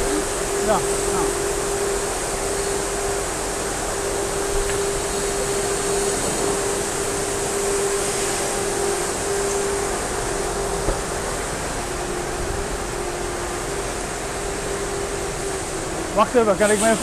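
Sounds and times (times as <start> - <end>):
fan whooshing with hum: 0.0 - 17.0.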